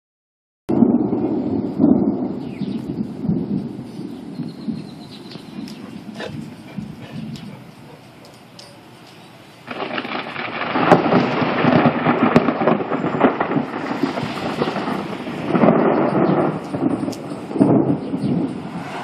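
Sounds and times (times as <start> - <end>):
thunder rumbling: 0.7 - 8.0, 9.6 - 19.0.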